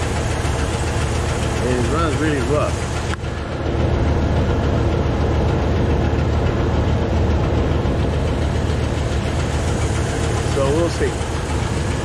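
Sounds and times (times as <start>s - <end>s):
engine idling rough: 0.0s - 12.0s.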